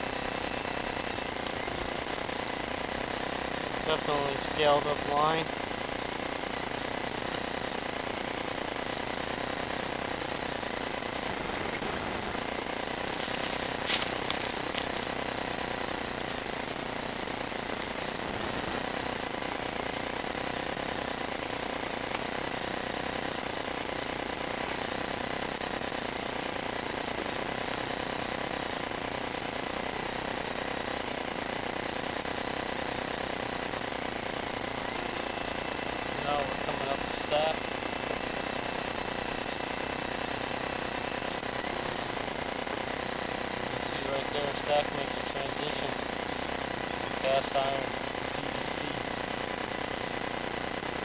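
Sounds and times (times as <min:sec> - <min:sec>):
machine noise with faint whine: 0:00.0 - 0:51.0.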